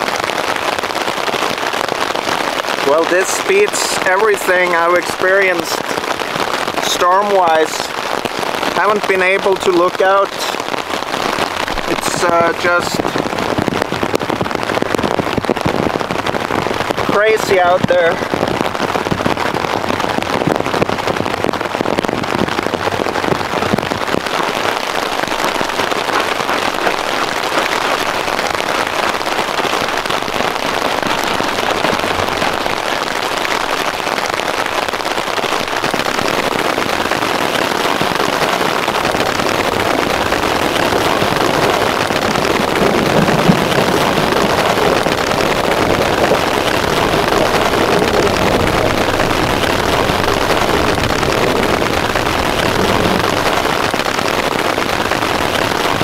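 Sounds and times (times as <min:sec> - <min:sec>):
heavy rain on a tarp: 0:00.0 - 0:56.0.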